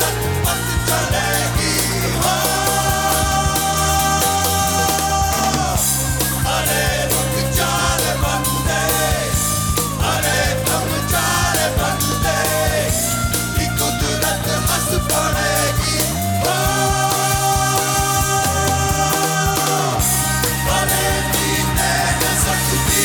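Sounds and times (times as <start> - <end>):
bass guitar: 0.0 - 23.0
drums: 0.0 - 23.0.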